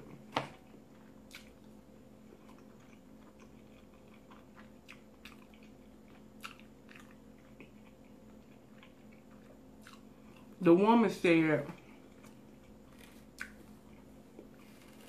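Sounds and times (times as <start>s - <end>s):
chewing food: 0.0s - 10.6s, 11.7s - 15.0s
low steady hum: 0.0s - 15.0s.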